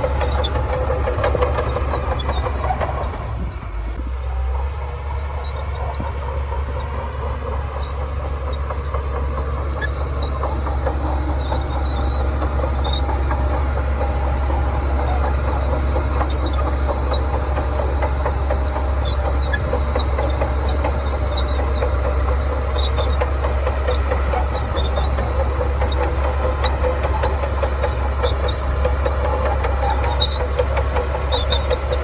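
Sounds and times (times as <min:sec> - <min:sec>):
diesel engine deep hum: 0:00.0 - 0:32.0
metallic clatter of crawler tracks: 0:00.0 - 0:32.0.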